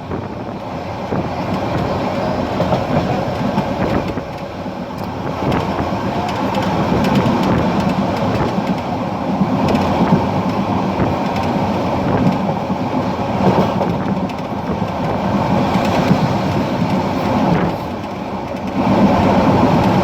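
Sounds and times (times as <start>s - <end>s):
train wheels rumbling on rails: 0.0s - 20.0s
faint rail joint clicks: 0.6s - 9.0s, 9.6s - 12.6s, 13.4s - 20.0s.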